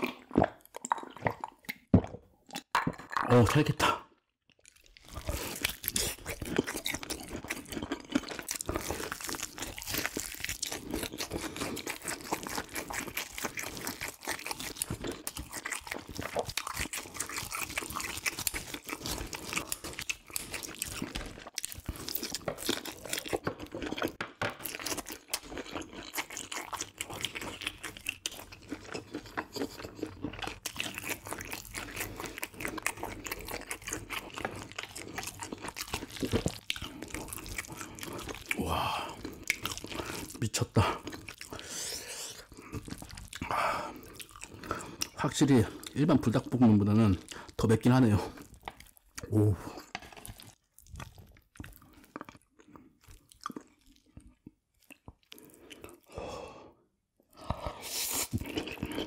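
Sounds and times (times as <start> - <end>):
crunching and chewing: 0.0 - 3.7, 4.5 - 56.2, 57.3 - 59.0.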